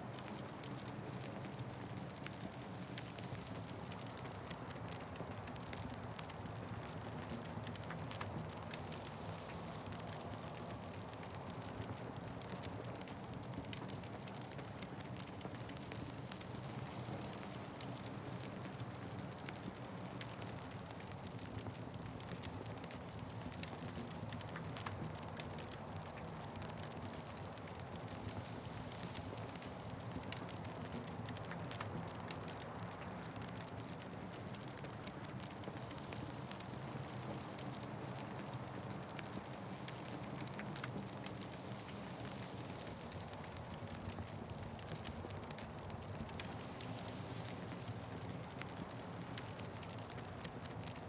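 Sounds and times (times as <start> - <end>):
wood fire crackling and popping: 0.1 - 51.0.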